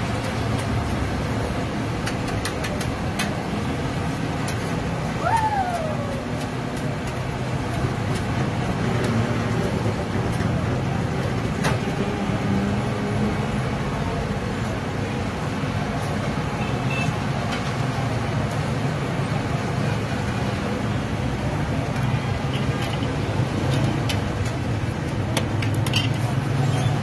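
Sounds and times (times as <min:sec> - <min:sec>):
low rumble of street traffic: 0:00.0 - 0:27.0.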